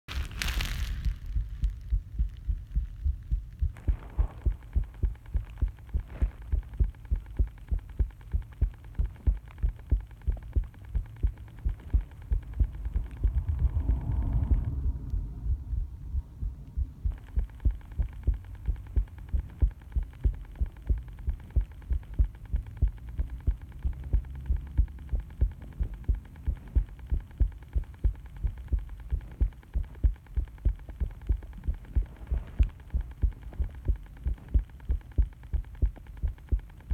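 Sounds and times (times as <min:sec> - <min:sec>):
constant rumbling noise: 0:00.1 - 0:36.9
heartbeat thuds: 0:00.5 - 0:36.9.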